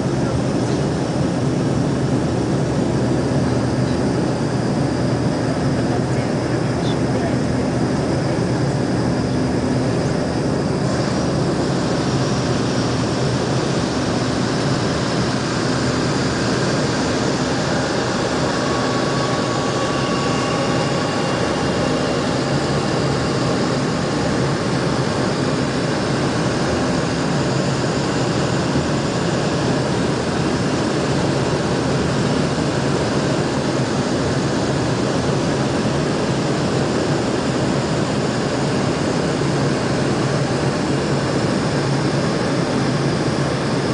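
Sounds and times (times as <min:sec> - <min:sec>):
airplane engines droning in cabin: 0:00.0 - 0:43.9.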